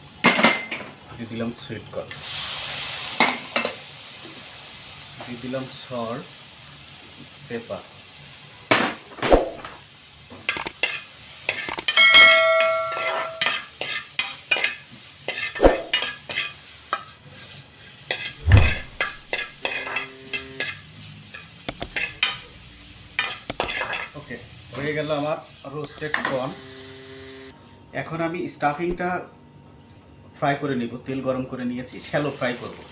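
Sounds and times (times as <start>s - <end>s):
faint sizzle: 0.0s - 11.6s, 12.4s - 18.4s, 19.0s - 28.5s, 31.5s - 32.9s.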